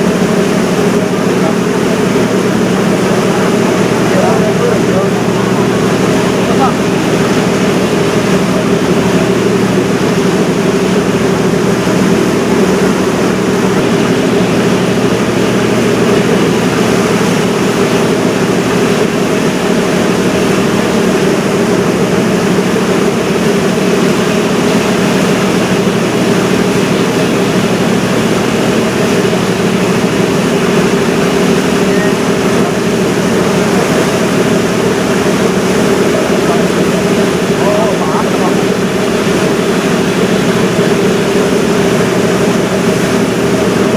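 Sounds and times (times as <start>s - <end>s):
ship engines humming: 0.0s - 43.9s.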